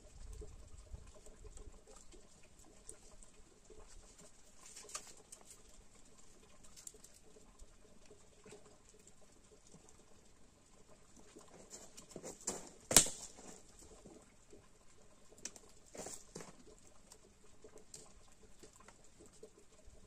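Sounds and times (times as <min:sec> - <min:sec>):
wood fire crackling: 0:01.2 - 0:19.9.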